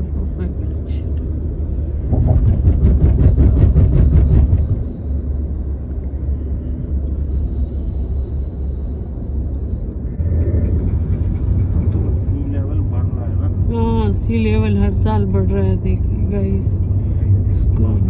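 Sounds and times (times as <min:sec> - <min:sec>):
road and tyre rumble inside car: 0:00.0 - 0:18.0.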